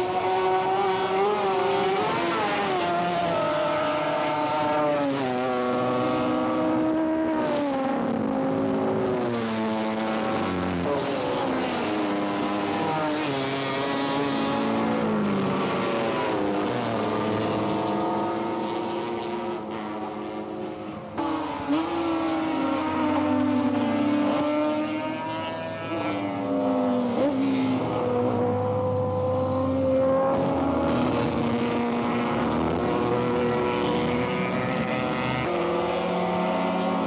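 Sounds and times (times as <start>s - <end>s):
racing motorcycle engines revving: 0.0s - 37.0s.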